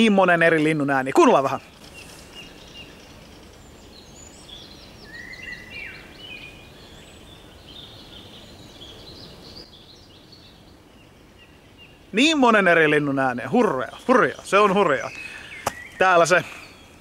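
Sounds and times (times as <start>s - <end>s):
low background noise: 0.0s - 17.0s
wild birds singing: 0.0s - 17.0s.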